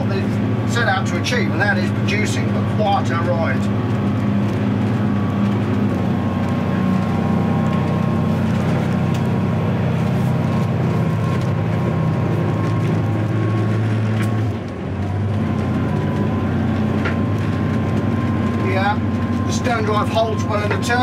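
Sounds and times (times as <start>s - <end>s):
boat diesel engine droning: 0.0s - 21.0s.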